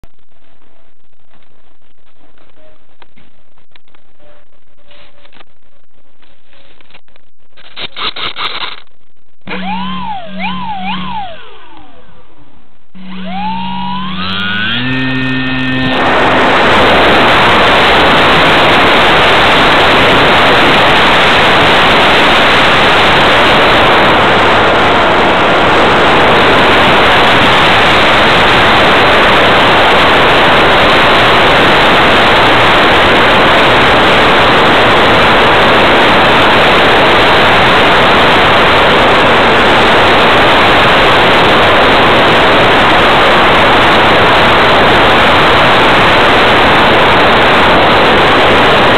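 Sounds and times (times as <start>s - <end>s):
wind and propeller rush: 0.0s - 48.9s.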